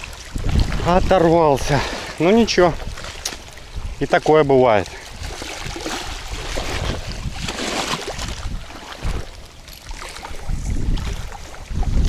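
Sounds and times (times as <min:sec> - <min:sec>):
water splashing: 0:00.0 - 0:12.0
wind buffeting microphone: 0:00.0 - 0:12.0.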